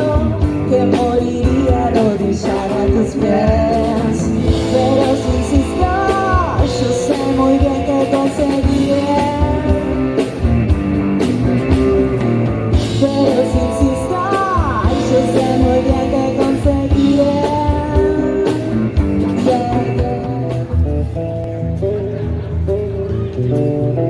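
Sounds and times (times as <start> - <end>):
lead singer: 0.0 - 21.3
live rock band playing: 0.0 - 24.0.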